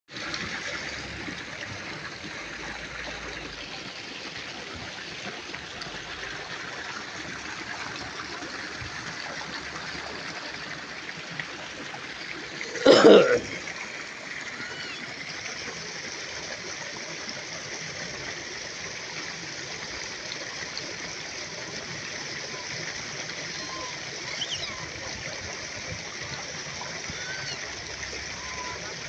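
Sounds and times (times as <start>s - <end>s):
water trickling: 0.1s - 29.0s.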